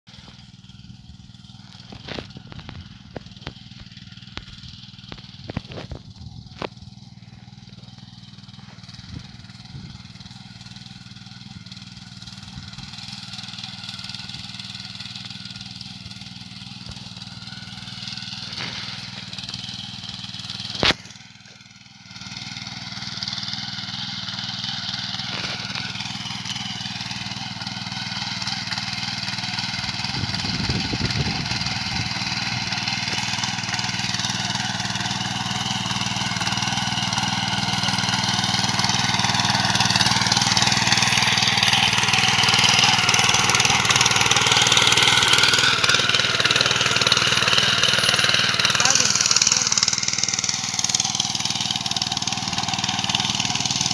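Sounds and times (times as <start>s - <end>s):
power weeder engine running: 0.1s - 53.9s.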